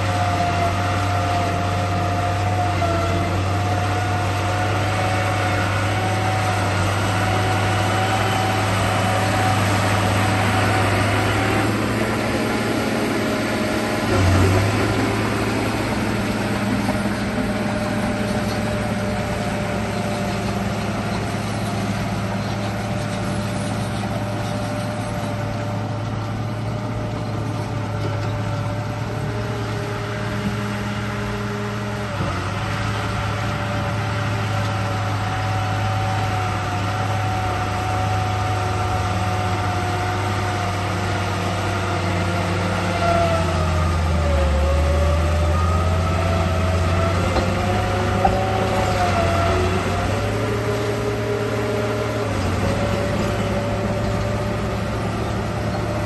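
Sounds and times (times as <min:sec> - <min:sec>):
motor and gear whine: 0:00.0 - 0:56.0
toy bulldozer engine drone: 0:00.0 - 0:56.0.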